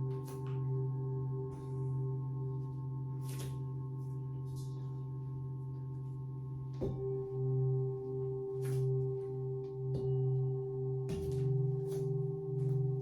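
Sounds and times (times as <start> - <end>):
singing bowl being struck: 0.0 - 13.0
singing bowls ringing: 0.0 - 13.0.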